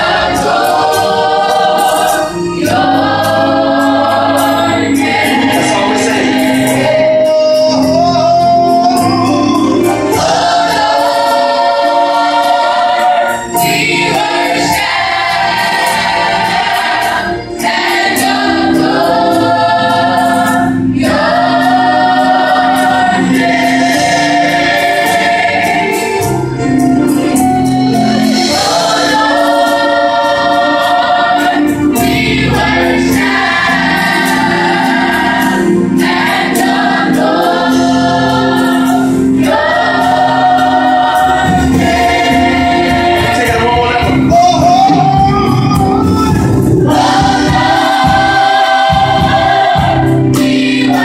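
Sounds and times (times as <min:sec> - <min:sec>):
gospel choir singing in harmony: 0:00.0 - 0:51.0
keyboard accompaniment: 0:00.0 - 0:51.0.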